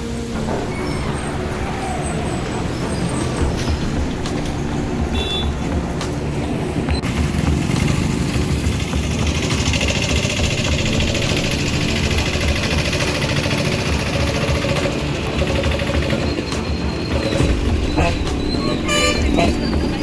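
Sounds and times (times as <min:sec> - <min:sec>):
road noise: 0:00.0 - 0:20.0
vehicle engines running: 0:00.0 - 0:20.0.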